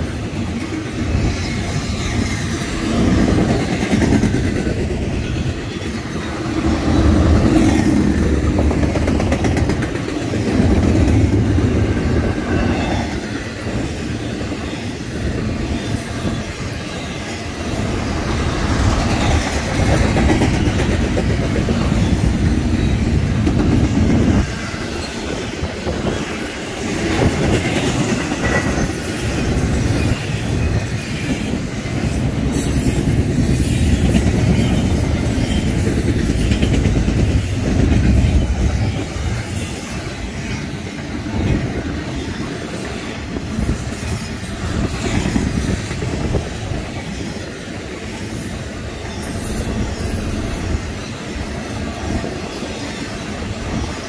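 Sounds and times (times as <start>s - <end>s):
freight train wheels clattering: 0.0s - 47.6s.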